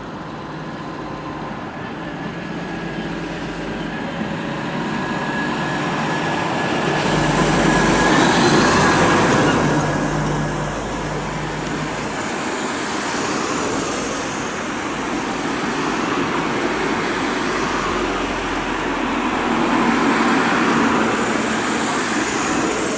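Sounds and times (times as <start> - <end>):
cars driving past: 2.5 - 22.9.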